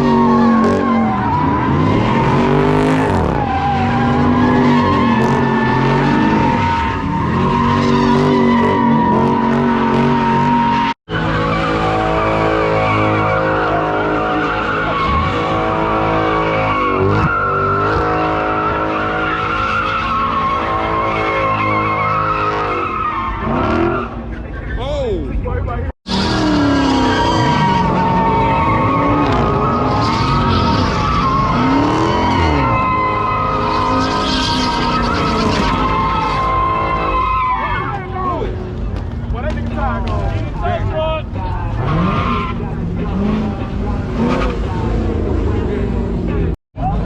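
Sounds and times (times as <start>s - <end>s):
engine at high revs: 0.0s - 24.2s, 26.1s - 37.0s, 41.7s - 46.6s
tires squealing: 0.0s - 47.0s.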